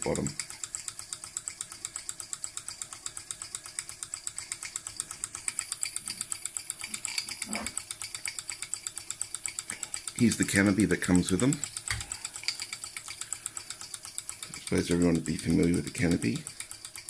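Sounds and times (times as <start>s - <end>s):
model steam engine chuffing: 0.0s - 17.0s.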